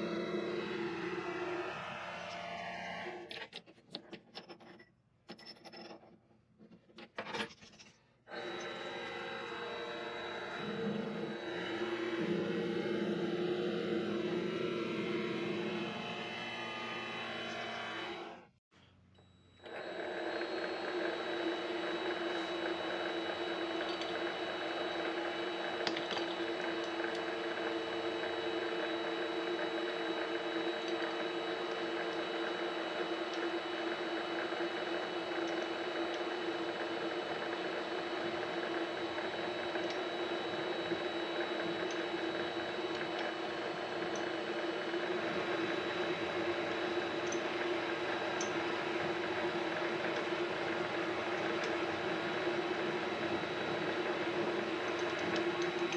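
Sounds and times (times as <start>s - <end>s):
lathe motor whining: 0.0s - 3.2s, 8.3s - 18.5s, 19.6s - 55.9s.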